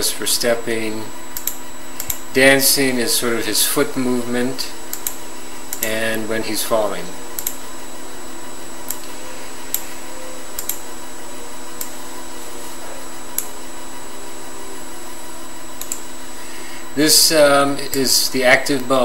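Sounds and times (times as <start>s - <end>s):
steady electronic hum: 0.0s - 19.0s.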